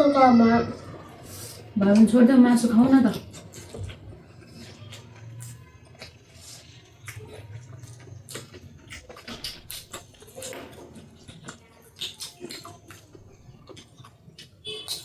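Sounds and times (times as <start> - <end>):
people eating with wet chewing: 0.0 - 15.0.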